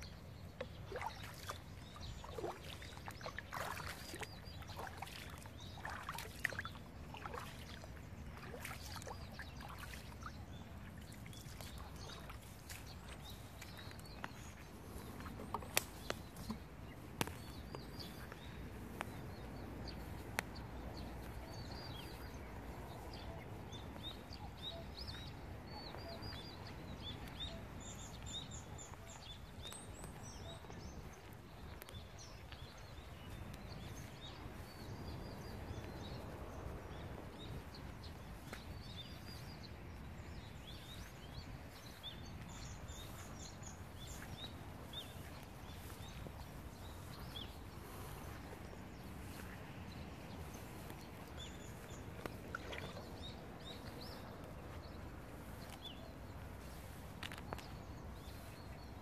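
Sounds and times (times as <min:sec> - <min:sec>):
small birds chirping: 0:00.0 - 0:59.0
low wind rumble: 0:06.6 - 0:59.0.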